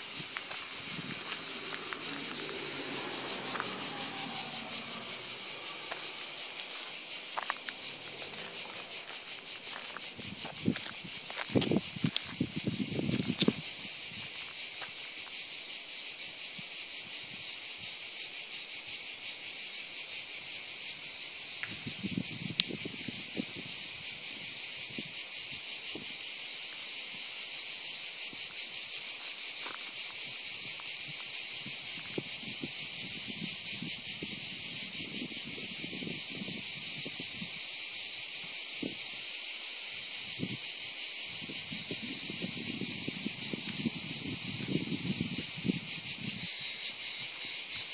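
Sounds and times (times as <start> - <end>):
insects singing in a chorus: 0.0 - 47.9.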